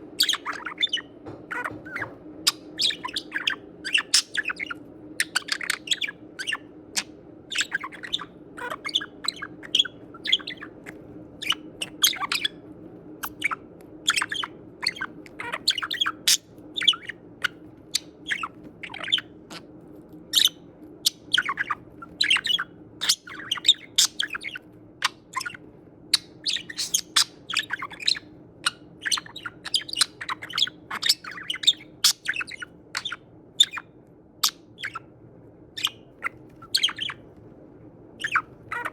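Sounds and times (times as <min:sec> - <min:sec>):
faint low hum: 0:00.0 - 0:38.9
budgerigar chirping: 0:00.2 - 0:12.6, 0:13.2 - 0:19.6, 0:20.3 - 0:25.6, 0:26.2 - 0:33.8, 0:34.4 - 0:35.0, 0:35.8 - 0:37.2, 0:38.2 - 0:38.9.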